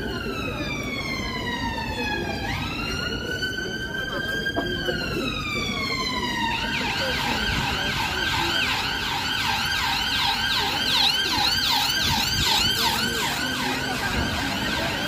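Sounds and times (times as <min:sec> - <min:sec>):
siren yelping: 0:00.0 - 0:15.0
steady siren tone: 0:00.0 - 0:15.0
traffic rumble: 0:00.0 - 0:15.0.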